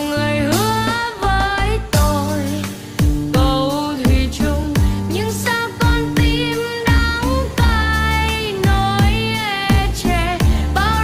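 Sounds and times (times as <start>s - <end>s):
person singing pop song: 0.0s - 11.0s
deep kick drums dropping in pitch: 0.4s - 11.0s
electronic beat: 0.5s - 5.2s, 5.8s - 11.0s.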